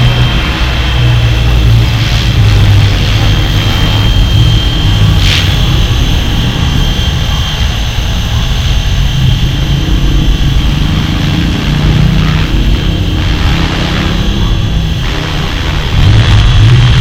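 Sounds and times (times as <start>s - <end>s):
high motor whine: 0.0s - 17.0s
rc helicopter rotor drone: 0.0s - 17.0s.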